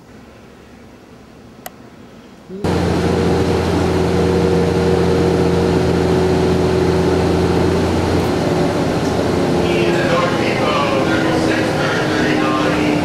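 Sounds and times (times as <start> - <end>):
bus engine drone: 0.0 - 13.0
road and cabin noise: 0.0 - 13.0
low hum: 2.5 - 13.0.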